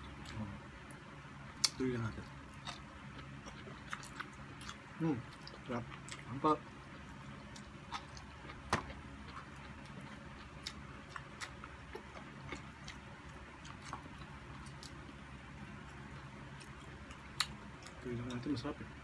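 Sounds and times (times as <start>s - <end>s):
chewing and mouth noises: 0.0s - 18.6s
low steady hum: 0.0s - 19.0s.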